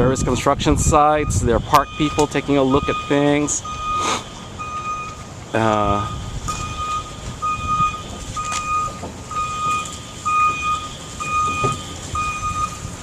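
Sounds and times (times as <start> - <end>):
low outdoor rumble: 0.0 - 13.0
reversing alarm beeping: 1.1 - 13.0.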